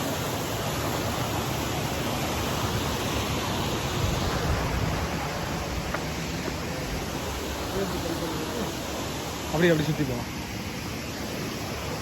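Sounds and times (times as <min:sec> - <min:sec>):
water cascading over rocks: 0:00.0 - 0:12.0.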